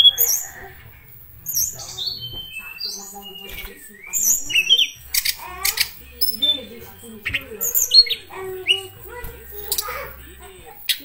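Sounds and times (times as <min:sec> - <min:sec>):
bird singing whistled notes: 0:00.0 - 0:00.7, 0:01.4 - 0:09.9
harsh rasping bird notes: 0:00.0 - 0:11.0.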